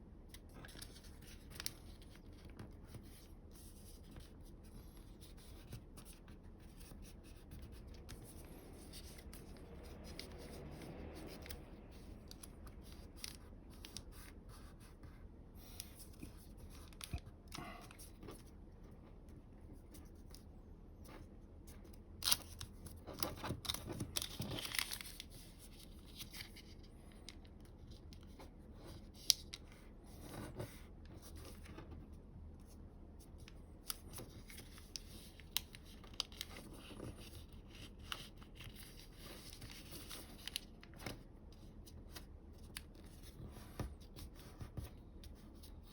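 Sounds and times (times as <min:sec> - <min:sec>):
paper being folded and creased: 0:00.2 - 0:18.6, 0:19.2 - 0:31.8, 0:32.6 - 0:45.9.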